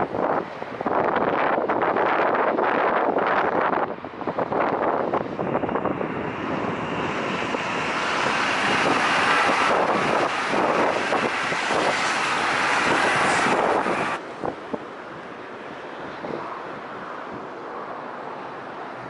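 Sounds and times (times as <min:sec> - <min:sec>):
high-speed train passing: 0:00.0 - 0:19.0.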